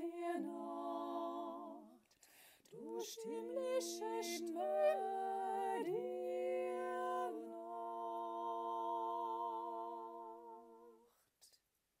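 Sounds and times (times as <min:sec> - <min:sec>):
woman singing a cappella harmony: 0:00.0 - 0:02.0, 0:02.7 - 0:11.1.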